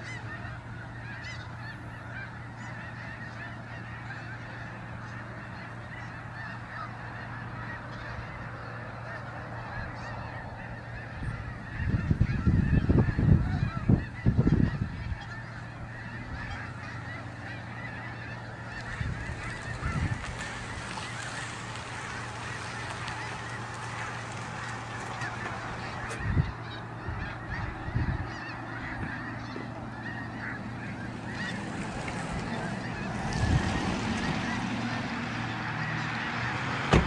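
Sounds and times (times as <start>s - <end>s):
flock of geese honking: 0.0s - 37.0s.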